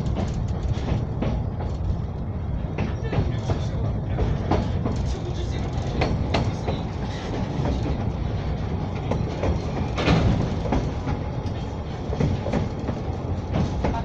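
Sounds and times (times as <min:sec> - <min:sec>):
train rumble: 0:00.0 - 0:14.0
wheels clicking and knocking: 0:00.0 - 0:14.0.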